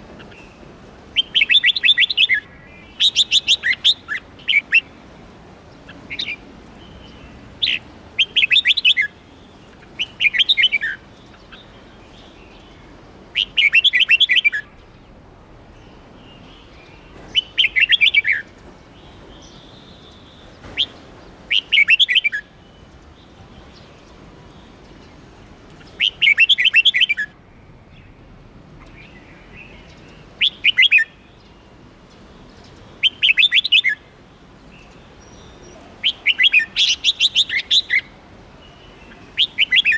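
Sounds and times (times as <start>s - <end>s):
bird singing bright chirping phrases: 0.0s - 39.9s.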